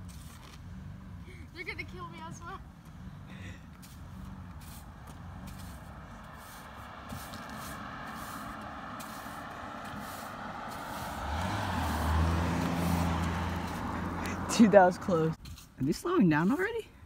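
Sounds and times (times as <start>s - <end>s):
car passing by: 0.0s - 15.4s.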